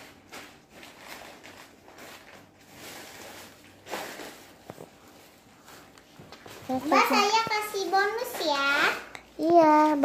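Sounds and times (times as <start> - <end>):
paper pages rustling: 0.0 - 8.8.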